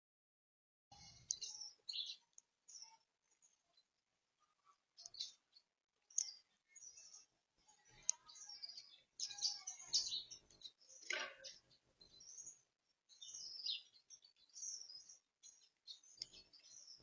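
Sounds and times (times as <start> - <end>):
small birds chirping: 0.9 - 17.0.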